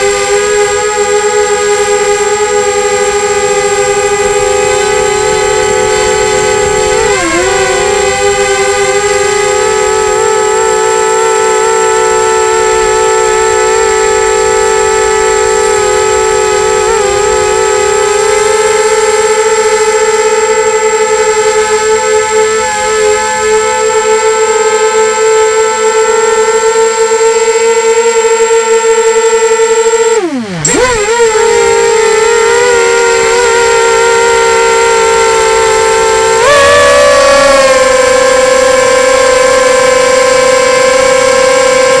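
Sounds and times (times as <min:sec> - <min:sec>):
quadcopter motors whining: 0:00.0 - 0:42.0.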